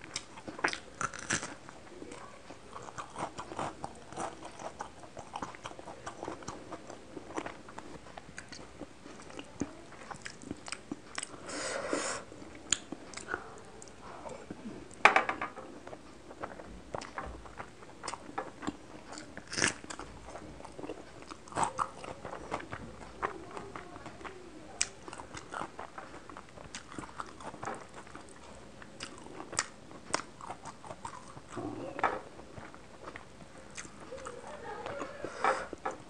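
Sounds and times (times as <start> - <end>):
wet chewing: 0.0 - 11.6, 12.3 - 15.0, 15.8 - 36.0.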